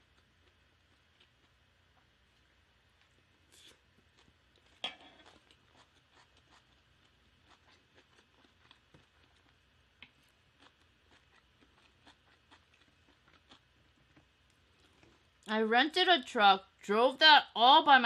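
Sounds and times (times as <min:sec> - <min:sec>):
chewing with mouth clicks: 0:00.0 - 0:02.1, 0:03.0 - 0:15.5.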